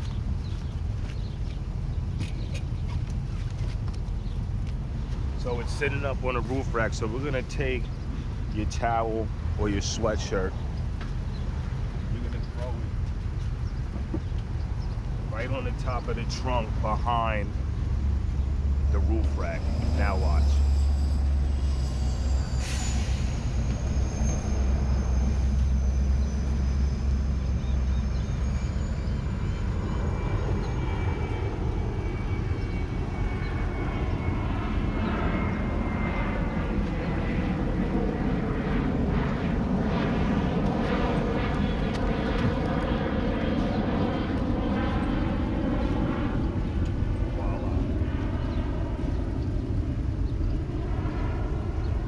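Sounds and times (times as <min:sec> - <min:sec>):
propeller airplane droning overhead: 0:00.0 - 0:52.0.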